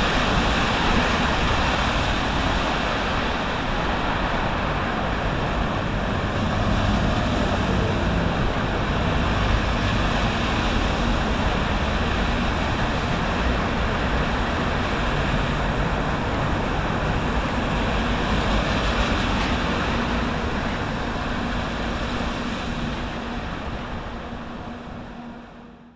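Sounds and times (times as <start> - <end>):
surf: 0.0 - 25.7
rain: 0.0 - 25.9
road traffic: 0.0 - 25.9.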